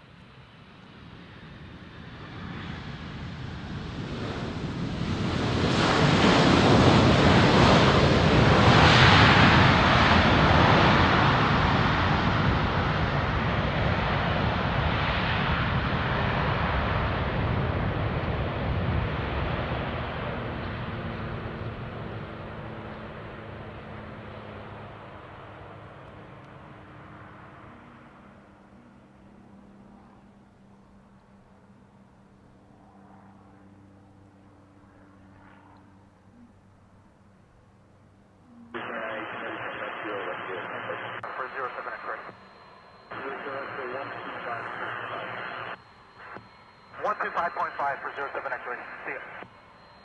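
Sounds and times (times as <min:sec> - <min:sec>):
jet aircraft engine roar: 0:00.0 - 0:50.0.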